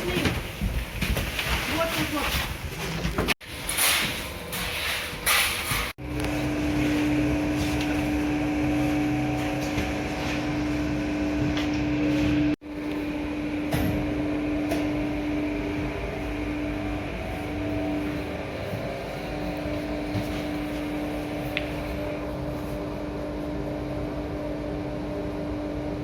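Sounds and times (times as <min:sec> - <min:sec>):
steady machine hum: 0:03.4 - 0:26.0.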